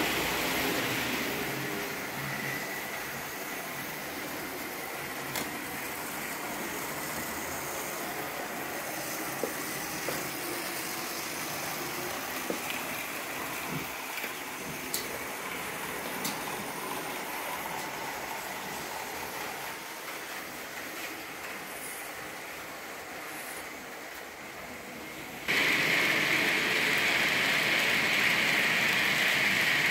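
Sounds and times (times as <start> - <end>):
model trains running on track: 0.0 - 29.9.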